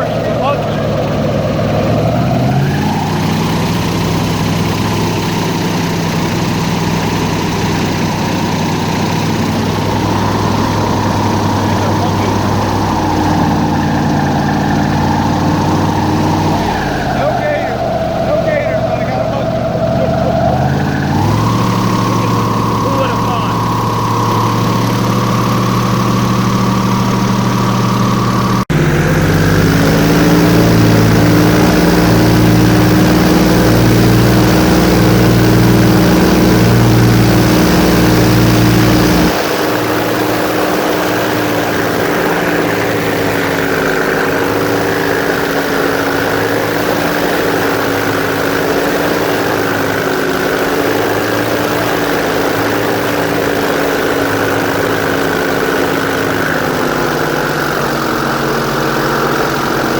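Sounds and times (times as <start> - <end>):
airboat engine and propeller: 0.0 - 59.9.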